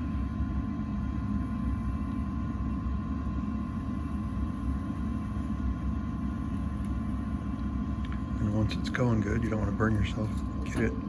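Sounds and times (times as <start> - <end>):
blower fan motor rumbling: 0.0 - 11.0
faint steady whine: 0.0 - 11.0.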